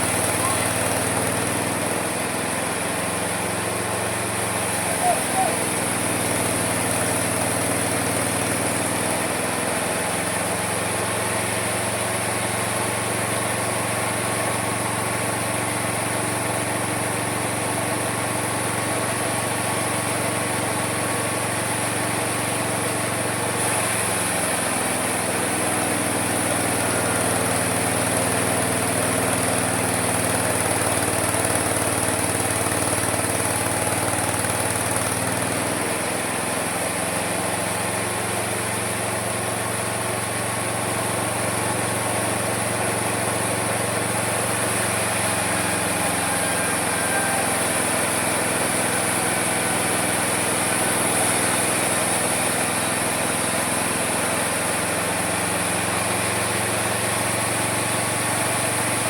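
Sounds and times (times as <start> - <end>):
sawmill engine humming: 0.0 - 59.0.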